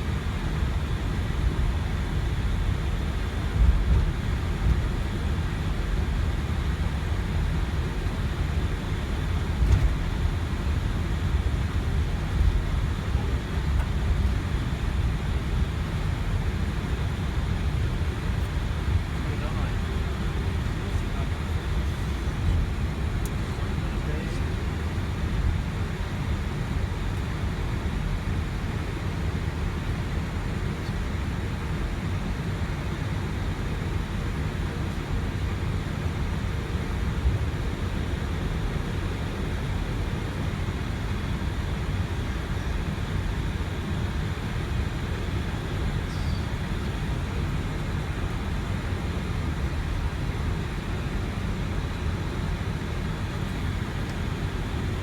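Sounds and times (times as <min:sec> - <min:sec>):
aircraft cockpit rumble and hiss: 0:00.0 - 0:55.0.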